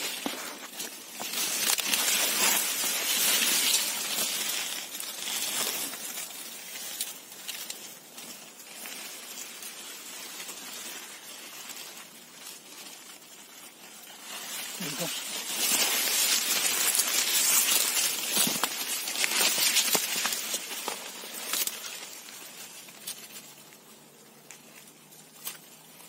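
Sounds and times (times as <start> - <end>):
leaves rustling and brushing: 0.0 - 26.0.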